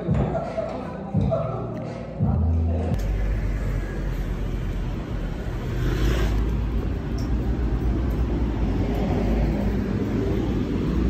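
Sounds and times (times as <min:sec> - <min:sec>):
traffic rumble: 0:01.2 - 0:11.0.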